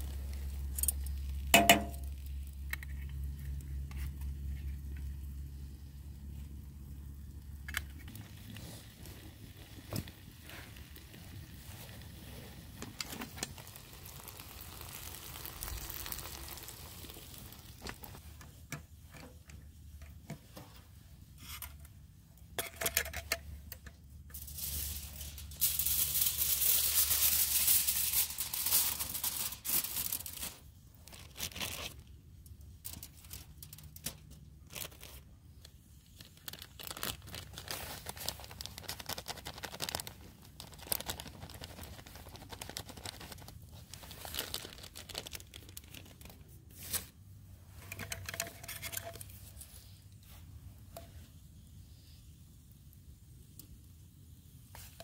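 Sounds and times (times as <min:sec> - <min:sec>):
aluminium foil crinkling: 0:00.0 - 0:18.5, 0:22.6 - 0:51.1.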